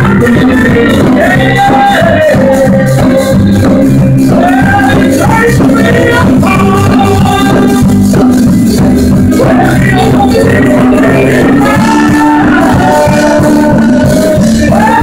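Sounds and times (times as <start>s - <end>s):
instrumental gospel music: 0.0s - 15.0s.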